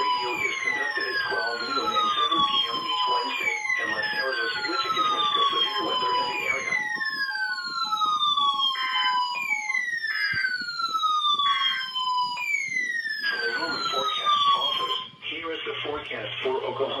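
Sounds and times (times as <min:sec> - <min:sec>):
falling siren-like whoop: 0:00.0 - 0:15.2.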